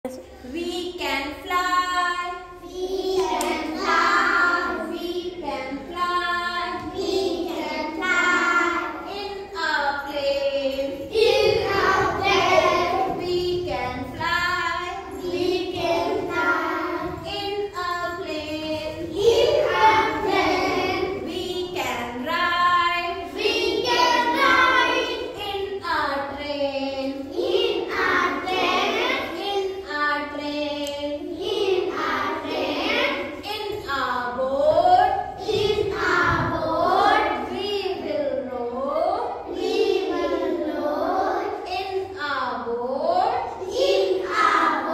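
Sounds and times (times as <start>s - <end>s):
children singing in unison: 2.4s - 33.8s, 34.4s - 38.0s, 39.4s - 41.7s, 43.4s - 44.9s.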